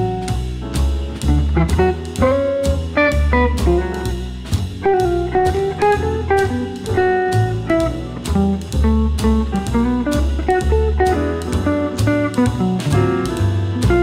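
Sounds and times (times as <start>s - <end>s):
guitar tune: 0.0s - 14.0s
steady drum beat: 0.0s - 14.0s.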